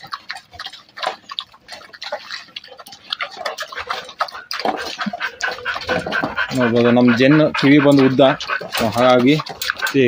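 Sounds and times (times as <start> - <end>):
dogs eating wet food: 0.0 - 10.0.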